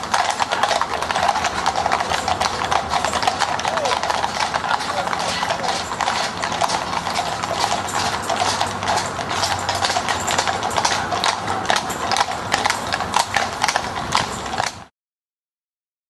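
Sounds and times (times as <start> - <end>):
horse hooves on tarmac: 0.0 - 14.9.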